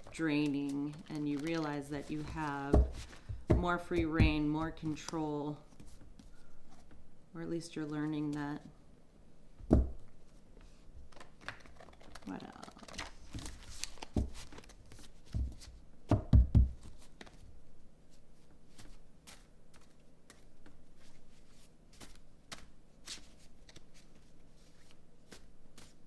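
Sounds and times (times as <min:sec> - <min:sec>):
cards shuffling by hand: 0:00.0 - 0:07.0, 0:10.6 - 0:15.8, 0:16.7 - 0:17.5, 0:18.1 - 0:26.0.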